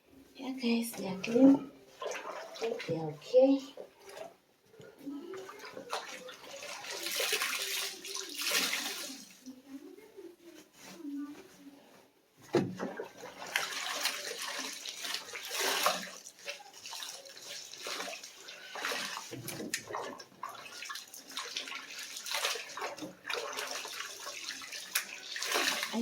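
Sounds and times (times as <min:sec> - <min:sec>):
water splashing and dripping: 0:01.2 - 0:04.4, 0:05.3 - 0:09.5, 0:12.5 - 0:26.0.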